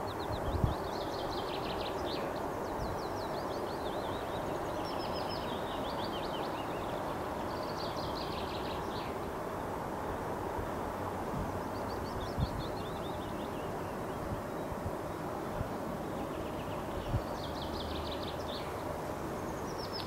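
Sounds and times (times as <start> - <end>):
songbirds trilling: 0.0 - 9.6, 10.6 - 20.0
steady background noise: 0.0 - 20.0.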